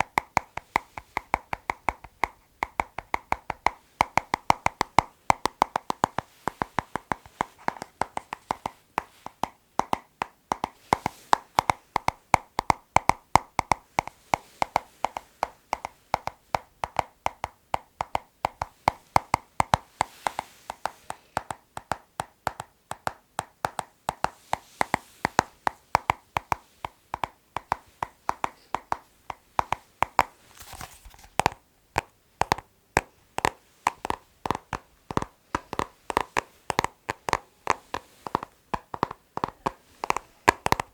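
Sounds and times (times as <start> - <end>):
fingers tapping on hard object: 0.0 - 40.9.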